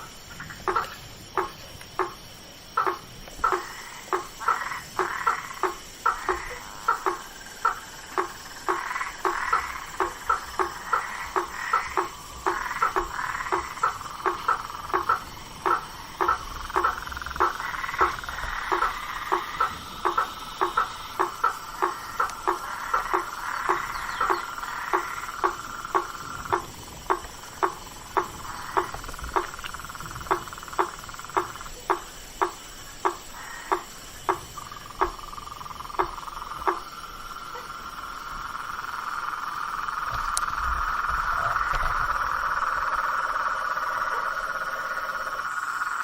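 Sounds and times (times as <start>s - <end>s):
frog knocking calls: 0.0s - 46.0s
high-pitched marsh chorus: 0.0s - 46.0s.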